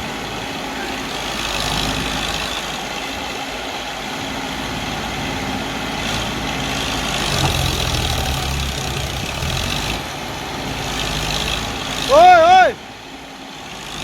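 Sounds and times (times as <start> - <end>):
tractor diesel engines running: 0.0 - 14.0.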